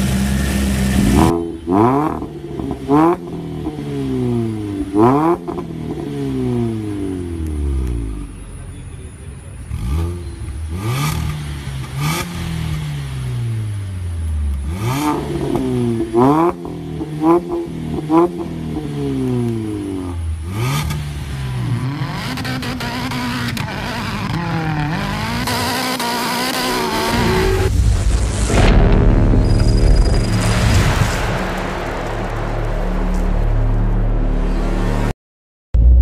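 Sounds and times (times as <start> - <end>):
car engine revving: 0.0 - 8.7, 9.6 - 14.0, 14.6 - 35.1.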